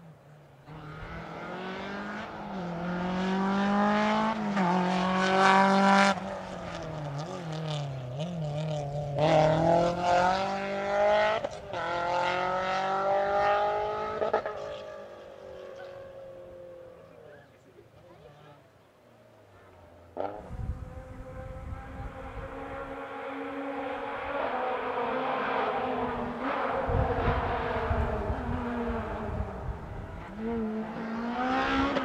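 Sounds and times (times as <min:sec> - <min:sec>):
rally car engine revving: 0:00.2 - 0:17.1, 0:20.1 - 0:32.0.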